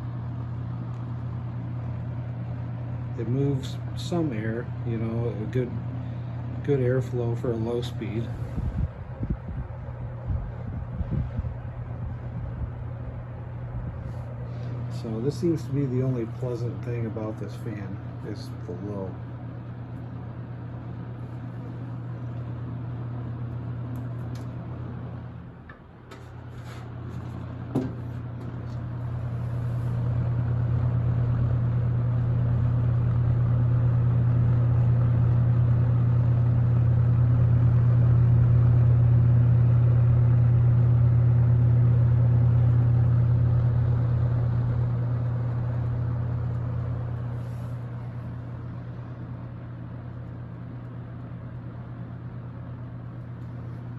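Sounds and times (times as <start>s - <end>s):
box fan motor hum: 0.0s - 53.9s.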